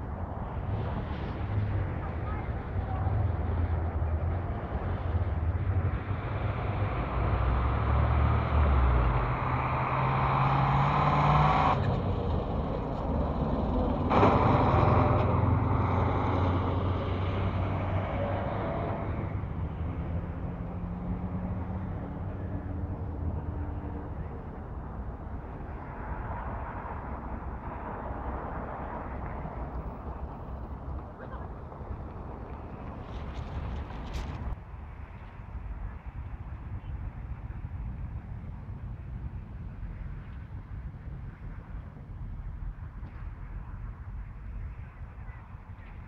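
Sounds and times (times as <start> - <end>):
cars and trucks driving past: 0.0 - 46.0.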